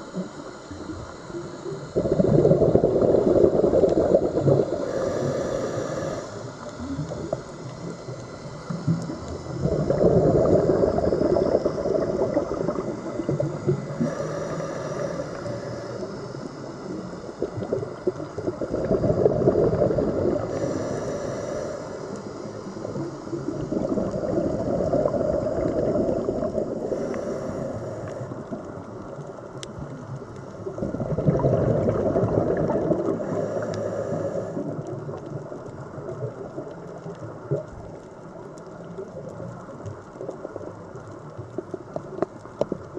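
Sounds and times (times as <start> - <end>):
exhaled bubbles gurgling underwater: 0.0 - 42.9
faint hiss: 0.0 - 42.9.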